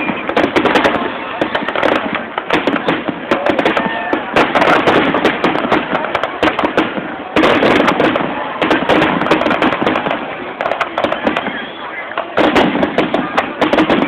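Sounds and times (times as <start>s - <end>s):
fireworks crackling and banging: 0.0s - 14.0s.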